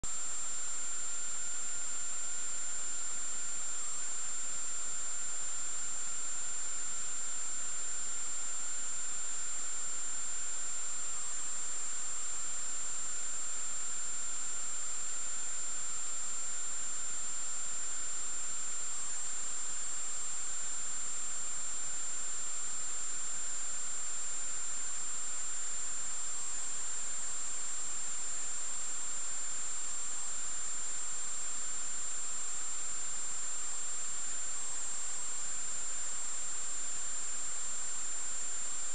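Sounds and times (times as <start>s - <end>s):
high-pitched whine: 0.1s - 38.9s.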